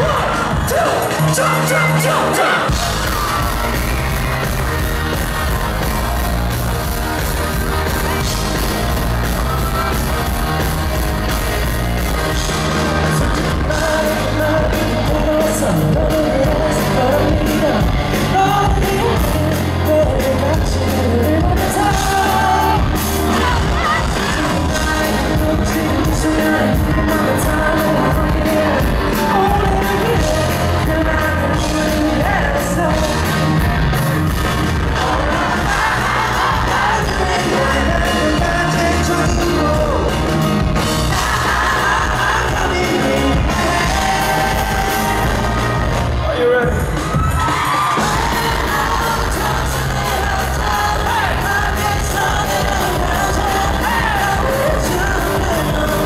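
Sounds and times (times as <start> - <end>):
man singing: 0.0 - 4.4, 12.4 - 33.6, 34.7 - 40.4, 41.1 - 47.2, 47.9 - 56.0
live pop-rock band playing: 0.0 - 56.0.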